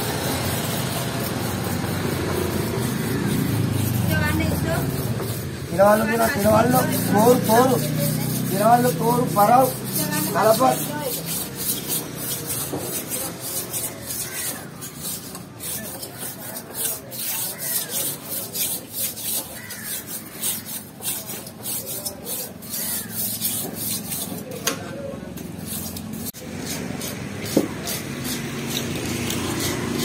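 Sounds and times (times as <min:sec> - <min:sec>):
knife scraping on whetstone: 0:00.1 - 0:30.0.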